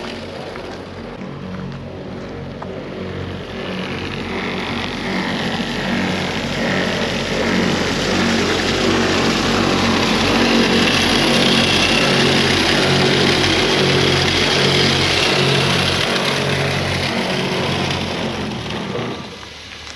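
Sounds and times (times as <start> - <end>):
road noise: 0.0 - 19.9
truck engine driving: 0.0 - 19.9.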